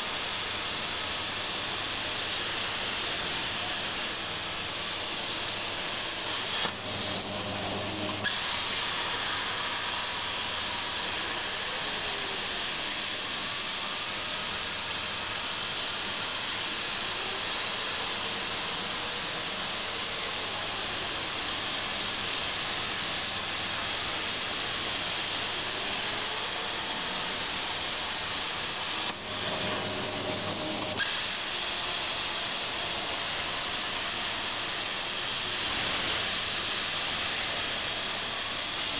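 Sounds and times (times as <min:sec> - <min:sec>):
plasma arc hissing: 0:00.0 - 0:38.9.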